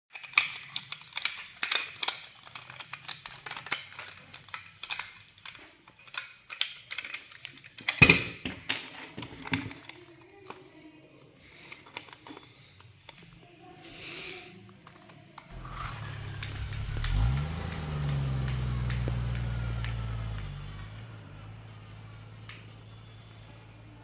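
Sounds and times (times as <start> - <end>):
small toys clicking and clattering: 0.1 - 20.8.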